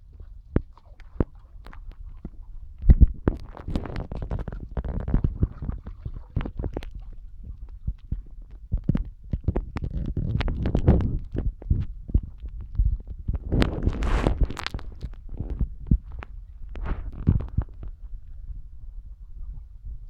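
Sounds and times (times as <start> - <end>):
low continuous rumbling: 0.0 - 20.0.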